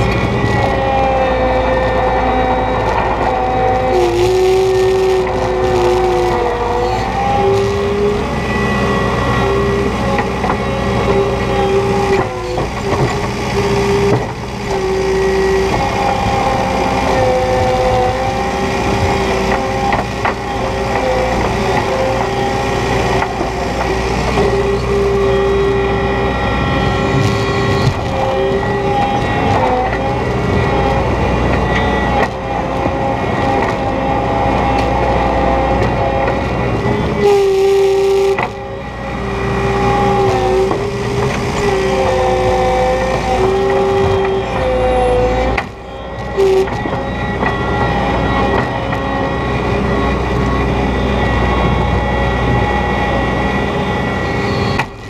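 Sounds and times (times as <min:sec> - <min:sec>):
diesel engine running under load: 0:00.0 - 0:55.0
machine whine: 0:00.0 - 0:55.0.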